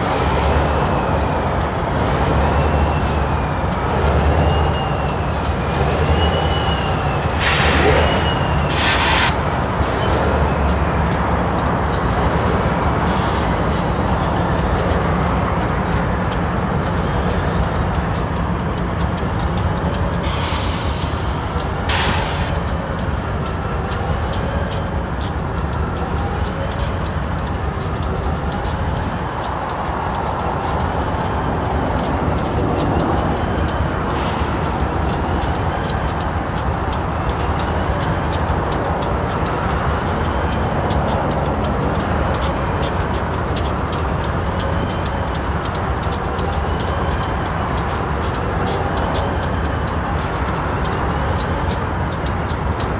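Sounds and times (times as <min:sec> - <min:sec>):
diesel locomotive engine idling: 0:00.0 - 0:52.9
sharp high clicks: 0:00.0 - 0:52.9
light regular ticking: 0:08.4 - 0:52.9.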